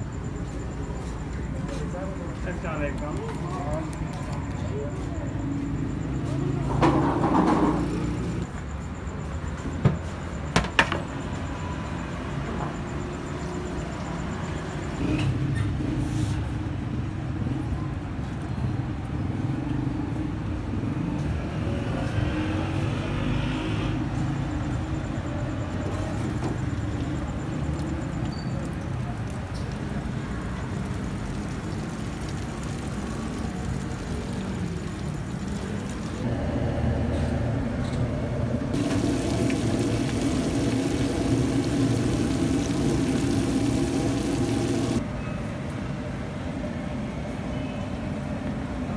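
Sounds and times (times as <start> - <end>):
street traffic rumble: 0.0 - 48.9.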